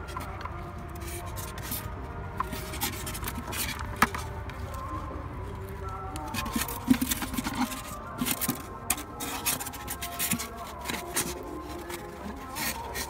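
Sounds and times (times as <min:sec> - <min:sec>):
plastic bucket lid rubbing and scraping: 0:00.0 - 0:13.0.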